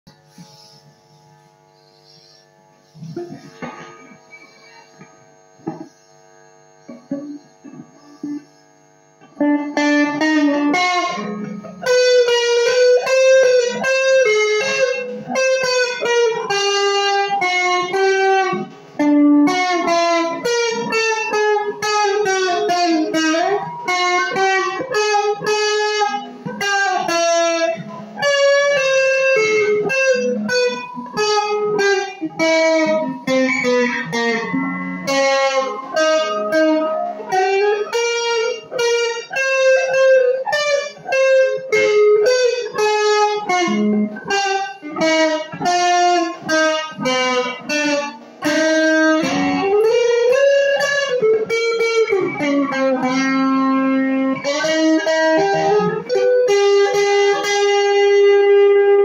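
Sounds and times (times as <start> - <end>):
electric guitar melody with bends: 0.0 - 59.0.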